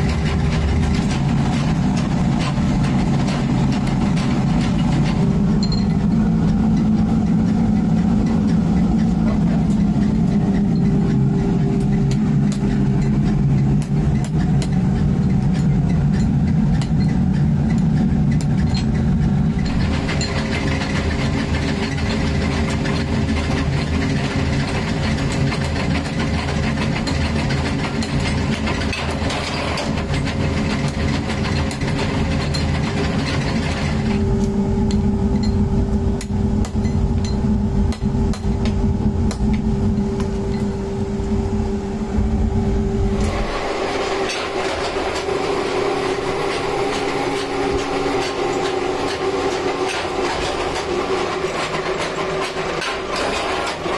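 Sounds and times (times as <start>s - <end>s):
forge blower humming: 0.0s - 53.9s.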